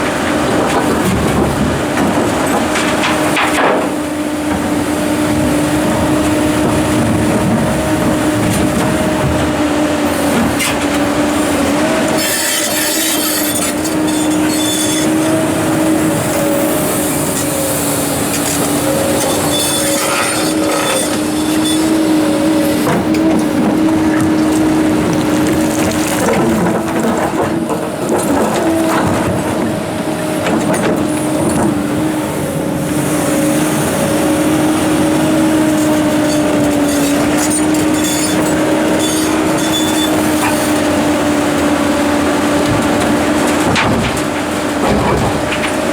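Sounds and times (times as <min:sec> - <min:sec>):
excavator engine and hydraulics: 0:00.0 - 0:45.9.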